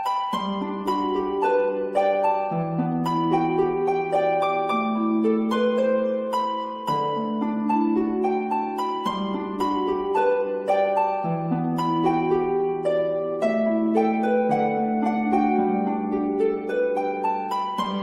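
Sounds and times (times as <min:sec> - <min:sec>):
gentle plucked harp-like melody: 0:00.0 - 0:18.0.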